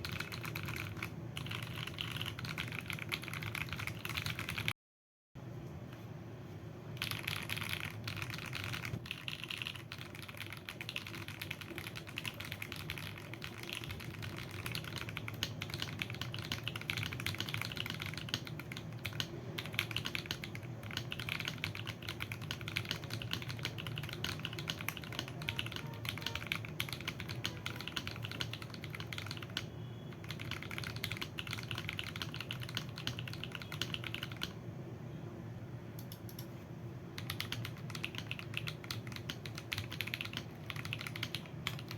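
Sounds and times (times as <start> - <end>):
mechanical keyboard typing: 0.0 - 4.8, 7.0 - 34.6, 36.0 - 36.5, 37.2 - 41.9.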